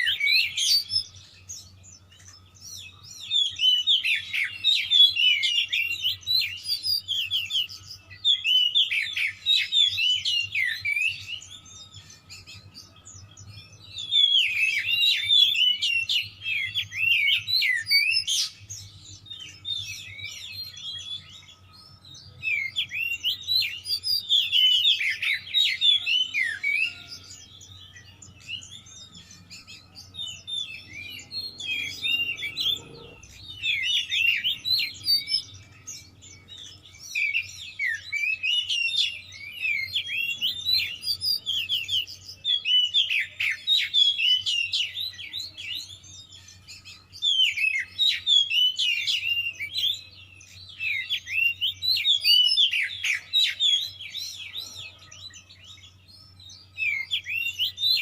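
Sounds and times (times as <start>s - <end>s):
songbird whistling and chattering: 0.0s - 58.0s.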